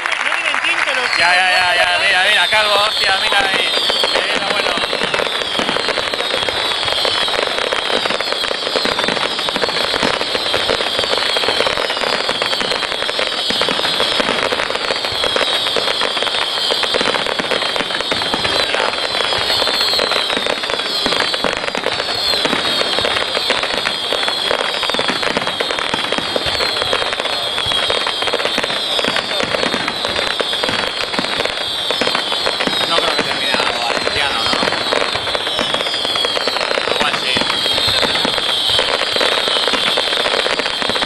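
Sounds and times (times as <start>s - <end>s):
fireworks crackling: 0.0s - 41.0s
fireworks whistling: 0.0s - 41.0s.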